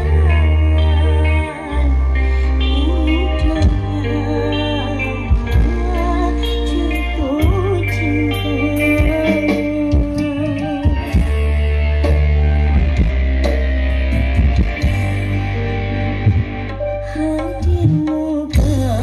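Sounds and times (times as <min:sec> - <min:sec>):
loud music with guitar and bass: 0:00.0 - 0:19.0.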